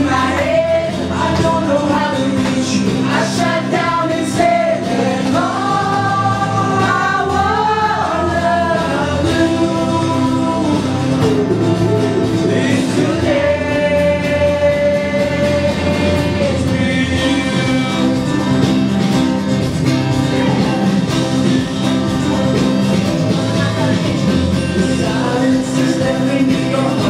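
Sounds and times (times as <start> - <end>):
man singing: 0.0 - 19.0, 23.0 - 27.0
acoustic guitar: 0.0 - 27.0.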